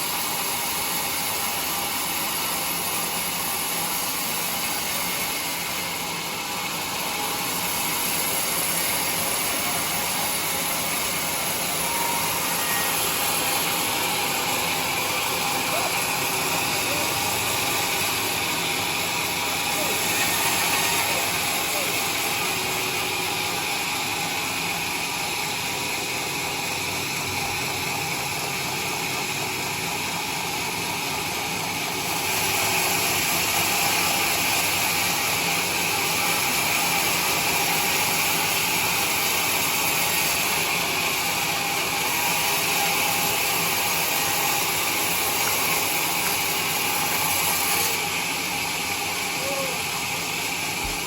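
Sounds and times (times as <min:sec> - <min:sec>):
band sawmill whining: 0:00.0 - 0:51.0.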